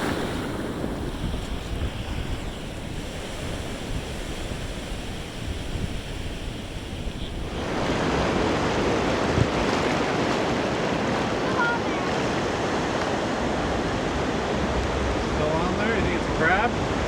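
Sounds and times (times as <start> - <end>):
surf washing onto beach: 0.0 - 17.0
wind rumbling on microphone: 0.0 - 17.0.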